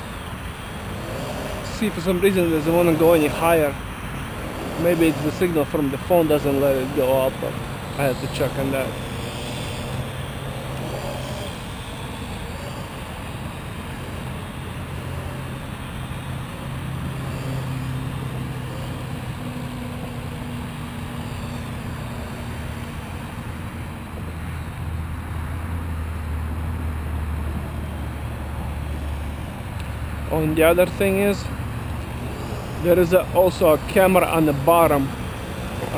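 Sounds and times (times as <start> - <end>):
drone propellers humming: 0.0 - 35.9.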